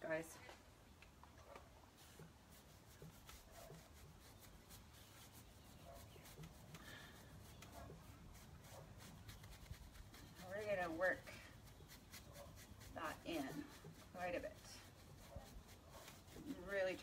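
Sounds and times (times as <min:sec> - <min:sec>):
paintbrush rubbing on wood: 0:01.8 - 0:17.0.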